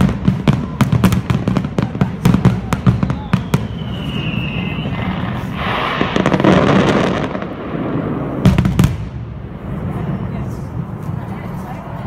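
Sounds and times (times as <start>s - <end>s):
fireworks bangs: 0.0s - 11.5s
fireworks crackling: 0.0s - 12.0s.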